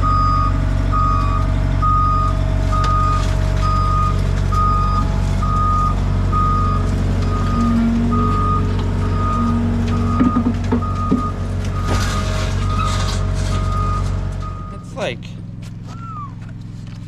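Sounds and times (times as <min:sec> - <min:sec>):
backup alarm beeping: 0:00.0 - 0:15.1
engine running: 0:00.0 - 0:17.0.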